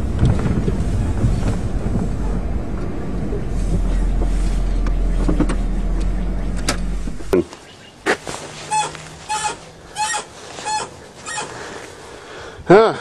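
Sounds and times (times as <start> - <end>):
suspension squeaks: 0.0 - 7.4, 8.5 - 11.7
engine and road rumble: 0.0 - 13.0.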